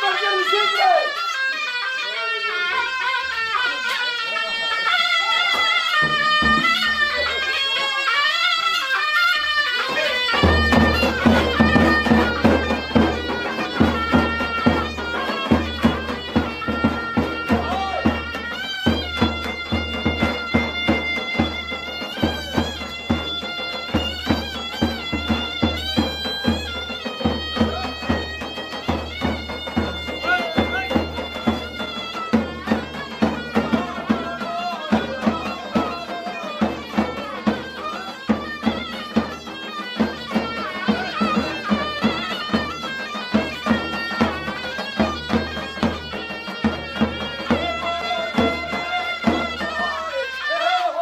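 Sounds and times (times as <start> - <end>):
double-reed folk pipe playing: 0.0 - 51.0
large drum beaten in rhythm: 6.0 - 8.3, 9.6 - 50.1.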